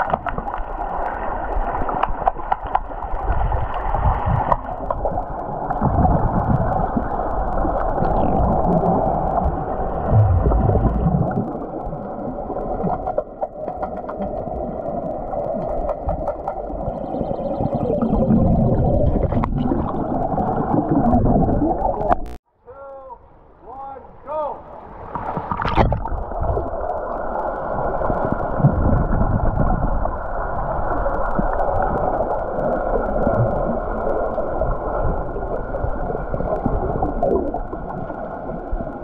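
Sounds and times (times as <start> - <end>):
muffled underwater rushing and bubbles: 0.0 - 22.4, 24.8 - 39.0.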